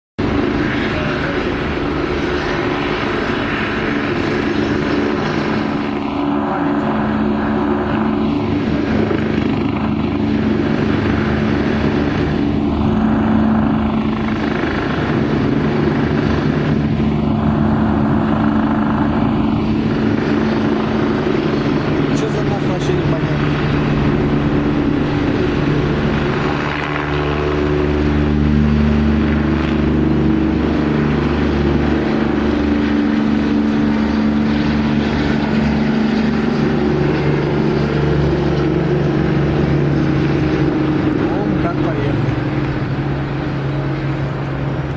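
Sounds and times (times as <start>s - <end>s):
helicopter droning: 0.2s - 44.9s.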